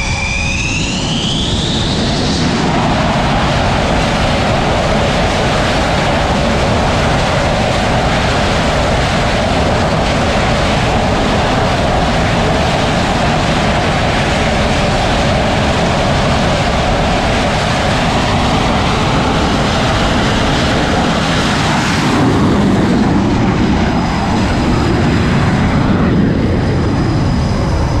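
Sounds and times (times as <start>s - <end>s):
jet engines at full power: 0.0s - 28.0s.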